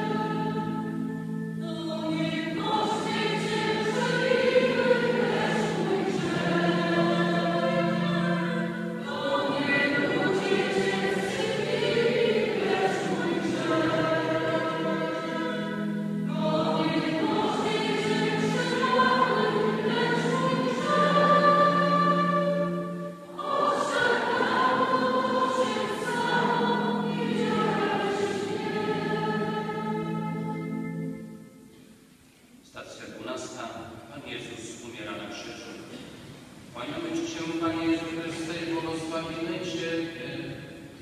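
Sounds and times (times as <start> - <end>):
congregation singing a hymn: 0.0 - 31.6, 34.3 - 41.0.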